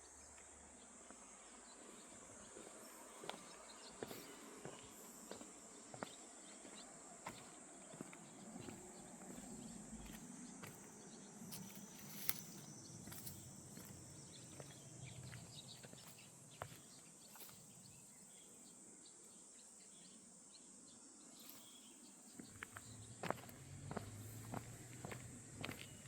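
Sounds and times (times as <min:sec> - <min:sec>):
steady high-pitched hiss: 0:00.0 - 0:23.4.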